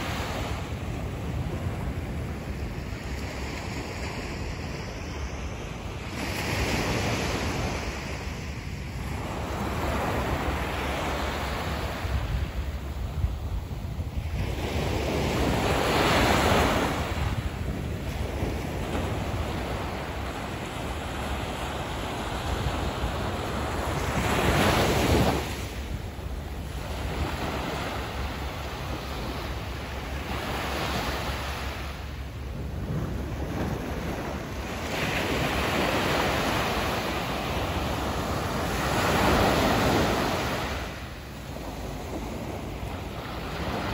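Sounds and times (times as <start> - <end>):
waves breaking on beach: 0.0 - 43.9.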